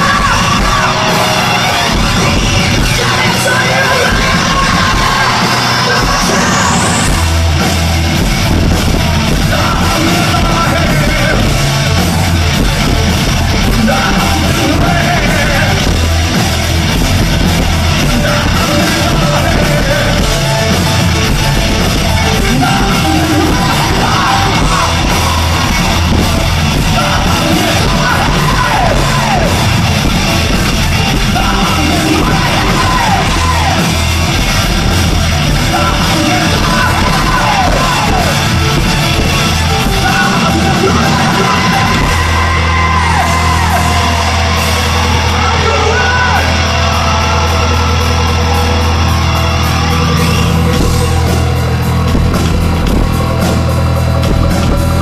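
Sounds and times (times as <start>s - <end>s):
man singing and yelling: 0.0s - 7.7s, 8.6s - 52.6s
rock band playing live: 0.0s - 55.0s.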